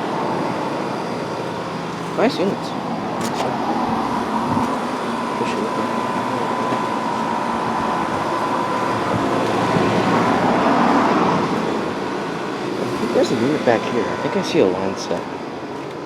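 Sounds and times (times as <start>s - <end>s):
thin high whine: 0.0s - 16.0s.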